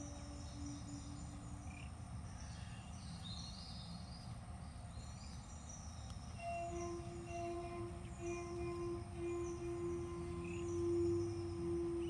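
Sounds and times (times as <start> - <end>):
held low musical tone: 0.0 - 3.6, 5.0 - 12.0
faint high bird chirps: 0.0 - 12.0
steady low rumble: 0.0 - 12.0.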